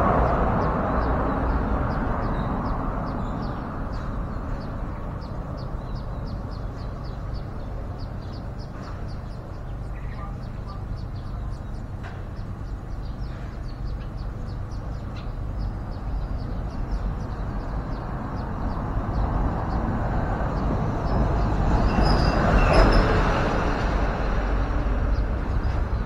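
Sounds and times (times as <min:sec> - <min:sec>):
passing traffic rumble: 0:00.0 - 0:26.0.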